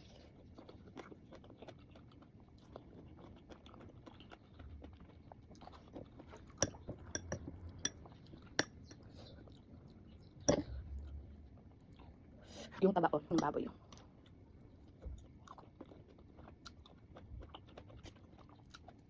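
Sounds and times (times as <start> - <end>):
chewing and crunching: 0.0 - 12.4, 13.5 - 19.0.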